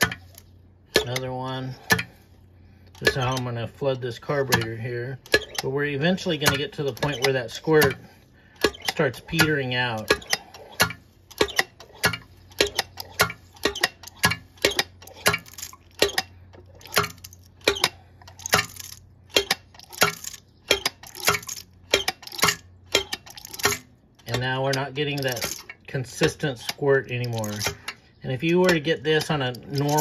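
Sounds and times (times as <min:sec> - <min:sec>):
carburetor throttle linkage clicking: 0:00.0 - 0:02.2, 0:02.9 - 0:30.0
fuel squirting: 0:04.1 - 0:30.0.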